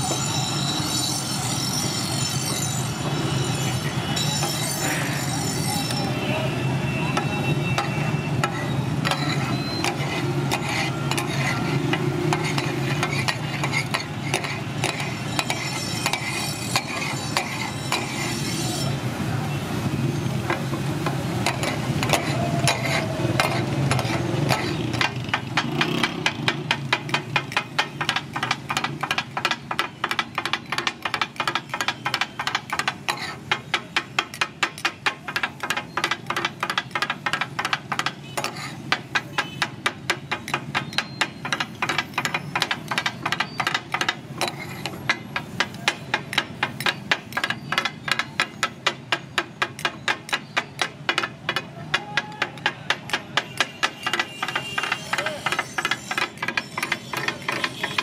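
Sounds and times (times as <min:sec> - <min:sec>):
metal spatulas striking iron griddle: 0:07.8 - 0:18.9, 0:21.4 - 0:58.0.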